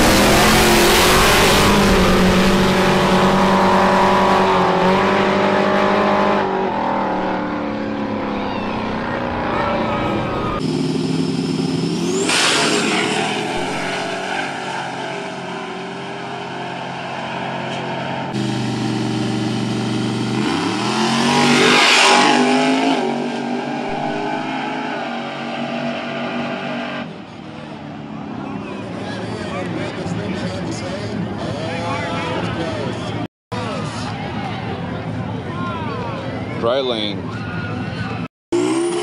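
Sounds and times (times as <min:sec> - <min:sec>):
race car engines accelerating: 0:00.0 - 0:39.0.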